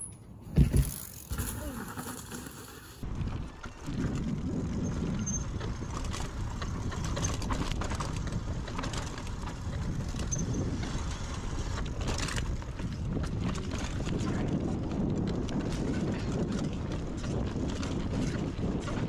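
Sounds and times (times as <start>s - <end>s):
bike rattling and clicking: 0.0s - 19.0s
bike tyres rumbling on dirt: 0.4s - 19.0s.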